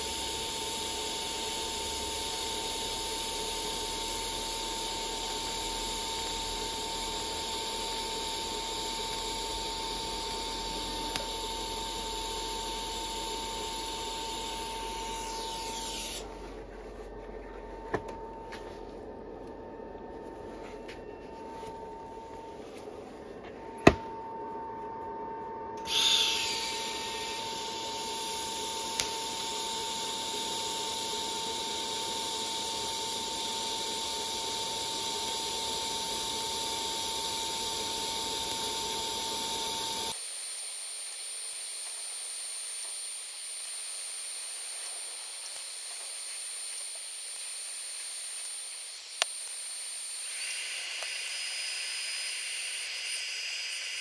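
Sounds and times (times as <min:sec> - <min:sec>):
welding arc hissing: 0:00.0 - 0:16.3, 0:25.9 - 0:54.0.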